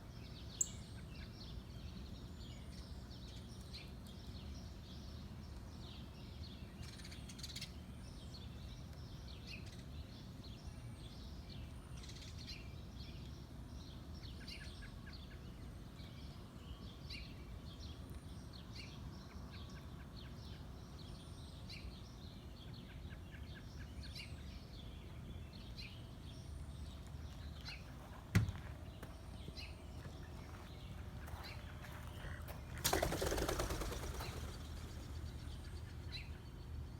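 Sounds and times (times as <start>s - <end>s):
low steady hum: 0.0s - 36.9s
small birds chirping: 0.0s - 36.9s.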